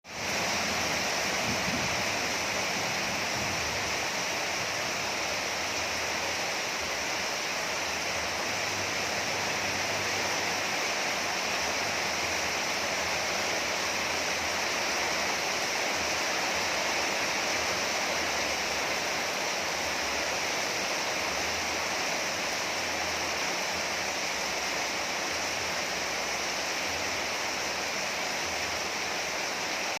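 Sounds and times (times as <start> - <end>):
rain hissing: 0.0 - 30.0.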